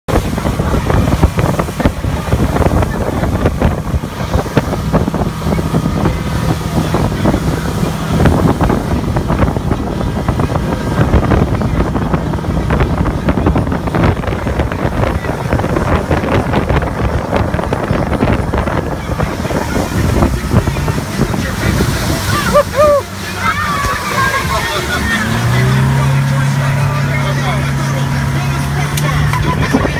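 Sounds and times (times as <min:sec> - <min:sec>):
outboard motor running: 0:00.1 - 0:29.9
wind buffeting microphone: 0:00.1 - 0:29.9.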